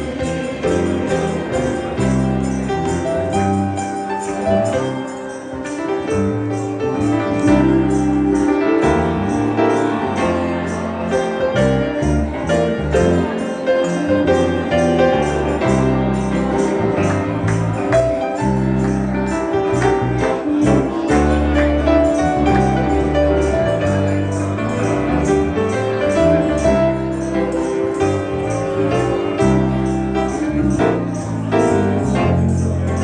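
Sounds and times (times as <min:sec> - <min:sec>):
jingling percussion: 0:00.0 - 0:33.0
music with steady beat: 0:00.0 - 0:33.0.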